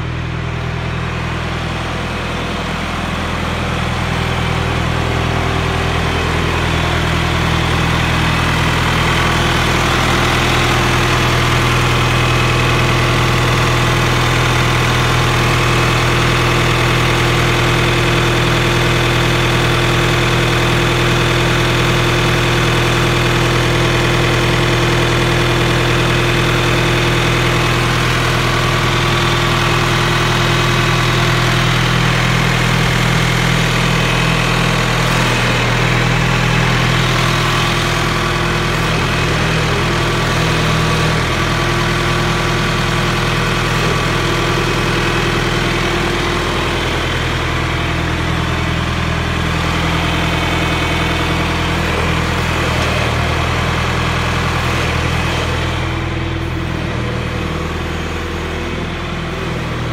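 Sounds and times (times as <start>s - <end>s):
backhoe engine idling: 0.0s - 59.9s.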